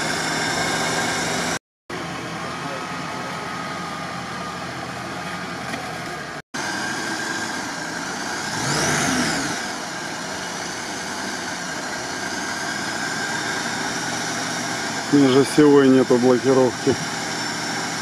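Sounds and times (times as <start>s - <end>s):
engine running and revving: 0.0s - 18.0s.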